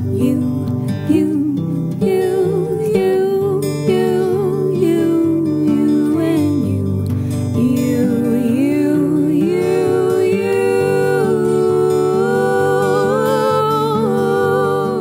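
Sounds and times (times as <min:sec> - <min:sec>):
gentle background song: 0:00.0 - 0:15.0.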